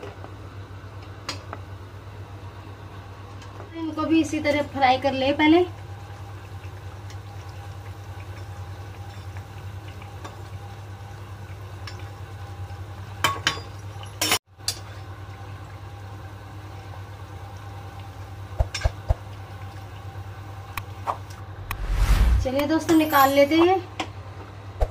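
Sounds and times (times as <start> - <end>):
oil sizzling and bubbling: 0.0 - 22.6.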